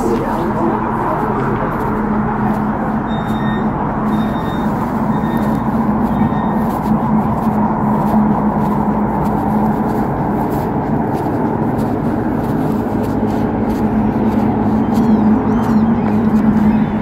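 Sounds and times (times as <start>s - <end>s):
equipment noise: 0.0s - 17.0s
tram electric hum: 0.0s - 17.0s.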